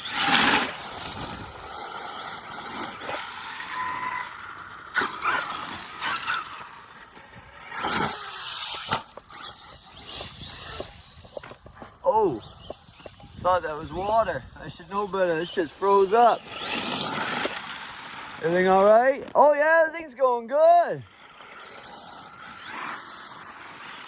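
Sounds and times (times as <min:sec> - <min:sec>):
electric motor whining: 0:00.0 - 0:19.3, 0:21.1 - 0:24.0
tyres scraping and spraying gravel: 0:00.0 - 0:19.6, 0:21.1 - 0:24.0.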